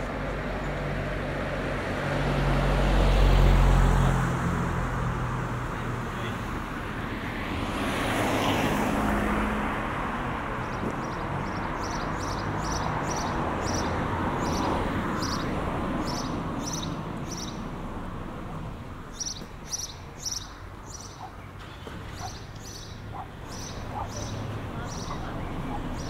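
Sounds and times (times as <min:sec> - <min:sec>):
vehicle passing: 0:00.0 - 0:26.0.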